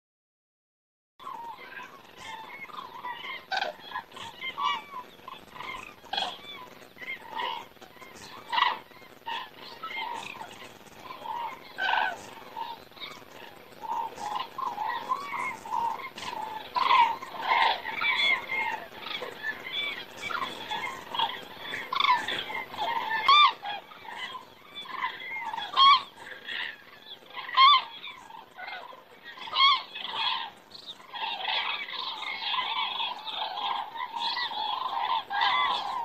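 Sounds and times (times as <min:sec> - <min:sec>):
cranes calling in flight: 0:01.2 - 0:36.0.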